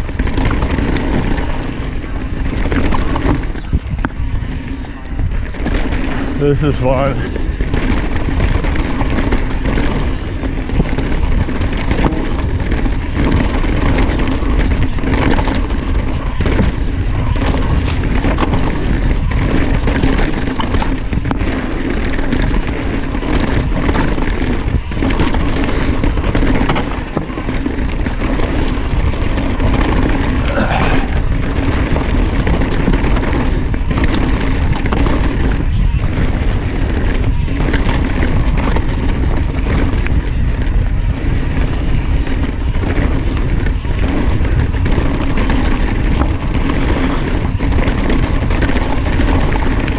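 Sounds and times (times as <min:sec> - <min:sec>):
bike clattering over bumps: 0:00.0 - 0:49.9
tyres rolling on dirt: 0:00.0 - 0:49.9
wind buffeting microphone: 0:00.0 - 0:49.9.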